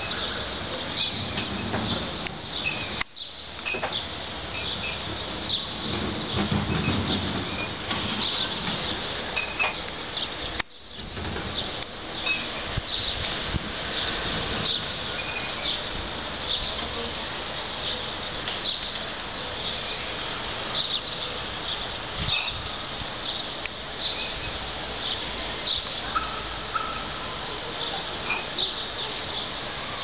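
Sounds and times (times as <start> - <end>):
small birds chirping: 0.0 - 30.0
steady outdoor hiss: 0.0 - 30.0.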